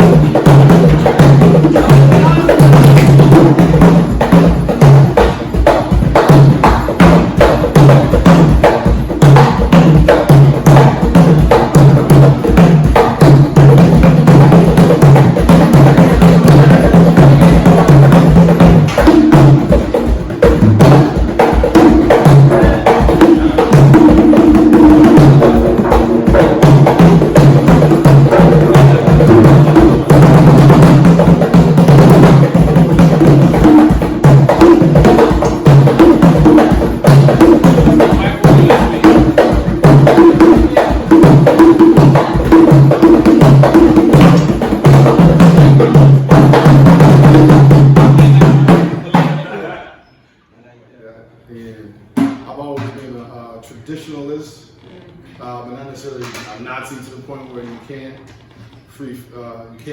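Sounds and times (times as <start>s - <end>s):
hand drums fast rhythm: 0.0s - 49.6s.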